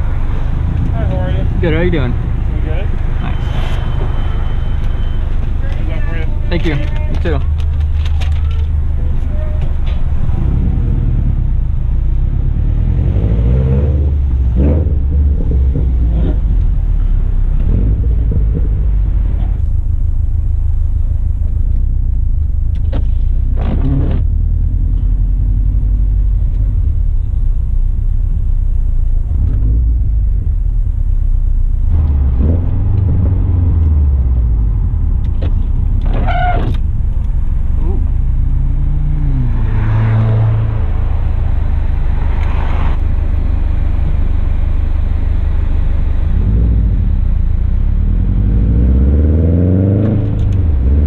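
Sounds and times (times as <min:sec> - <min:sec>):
car exhaust deep rumble: 0:00.0 - 0:51.0.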